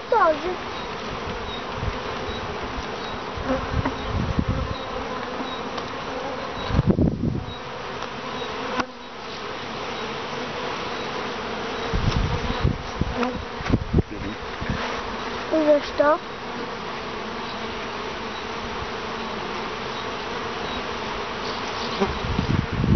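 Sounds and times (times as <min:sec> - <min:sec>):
honeybees buzzing: 0:00.0 - 0:22.9.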